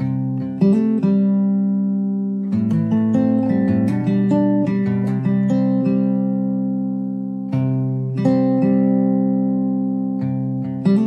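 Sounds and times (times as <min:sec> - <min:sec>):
guitar notes ringing: 0:00.0 - 0:11.0.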